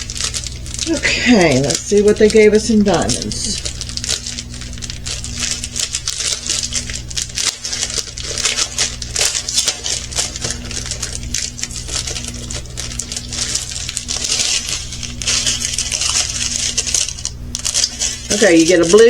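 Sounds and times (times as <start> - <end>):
plastic bags crinkling: 0.0 - 19.0
steady low hum: 0.0 - 19.0.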